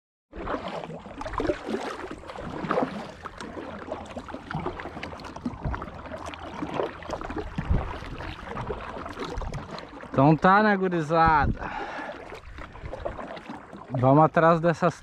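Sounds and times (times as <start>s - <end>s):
paddle splashing in water: 0.3s - 15.0s
water gurgling along hull: 0.3s - 15.0s.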